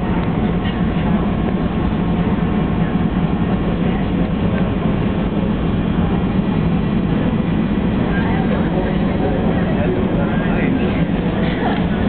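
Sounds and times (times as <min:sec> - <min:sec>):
rumbling hiss of arena noise: 0:00.0 - 0:12.0.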